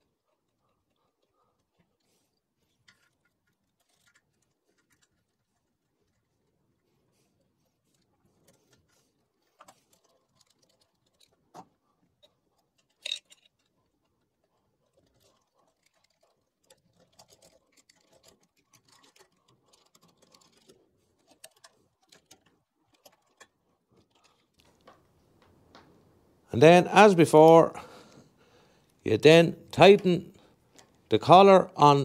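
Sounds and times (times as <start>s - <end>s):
small metallic clicks and scrapes: 0.1s - 25.9s, 30.7s - 31.1s.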